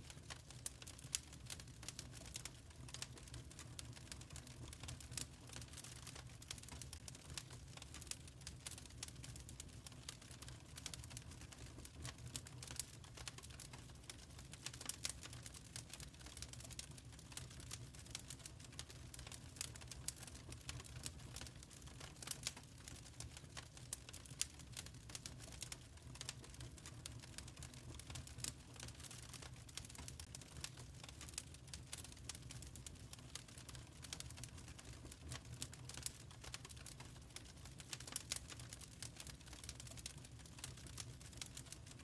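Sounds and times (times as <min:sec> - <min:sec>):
logs crackling and popping: 0:00.0 - 0:42.0
low rumble of flames: 0:00.0 - 0:42.0.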